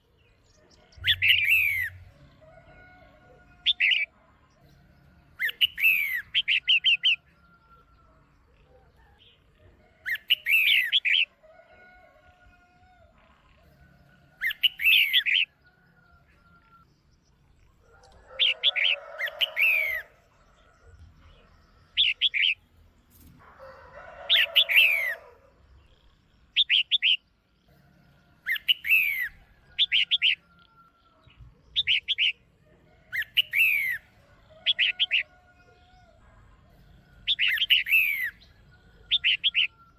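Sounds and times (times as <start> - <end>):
bird chirping: 0.0 - 23.3, 24.2 - 39.9
rough bird chatter: 0.0 - 39.9.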